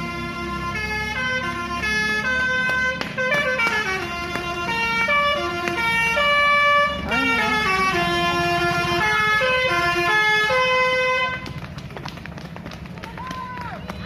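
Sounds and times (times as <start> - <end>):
musical air horn melody: 0.0 - 11.5
bus engine running: 0.0 - 14.0.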